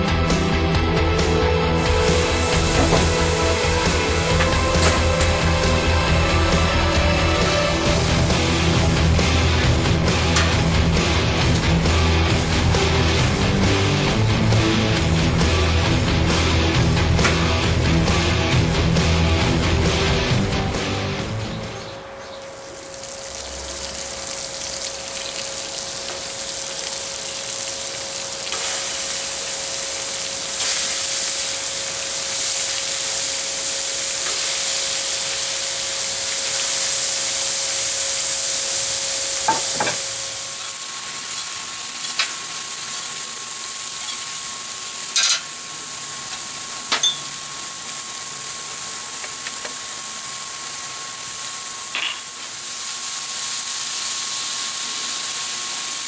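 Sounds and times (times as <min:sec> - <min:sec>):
meat sizzling on griddle: 0:00.0 - 0:21.4, 0:22.6 - 0:56.0.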